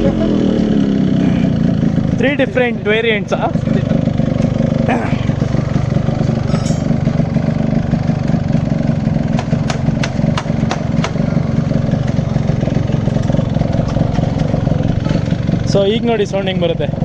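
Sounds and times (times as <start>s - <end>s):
two-stroke engine idling: 0.0s - 17.0s.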